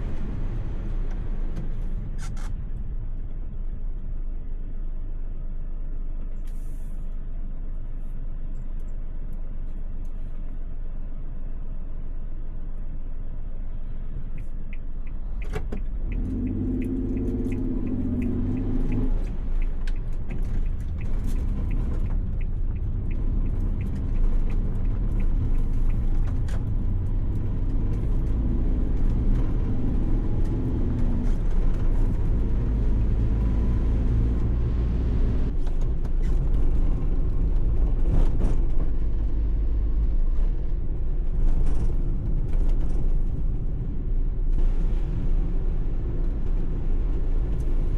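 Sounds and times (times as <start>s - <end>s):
van engine and road noise: 0.0s - 47.9s.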